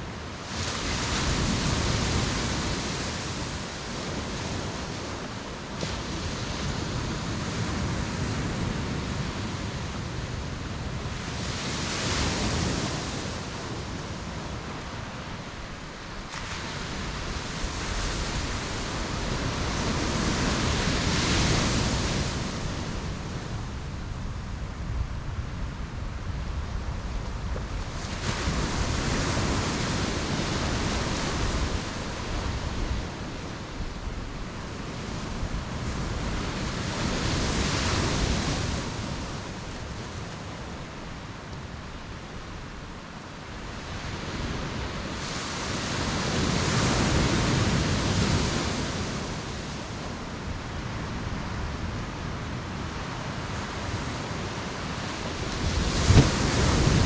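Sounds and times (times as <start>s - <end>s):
waves breaking on beach: 0.0s - 57.0s
wind rumble on microphone: 0.0s - 57.0s.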